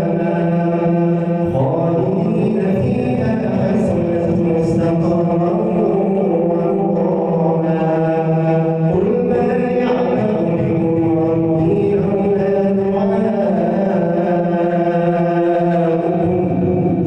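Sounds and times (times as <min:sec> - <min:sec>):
man chanting melodically: 0:00.0 - 0:17.0.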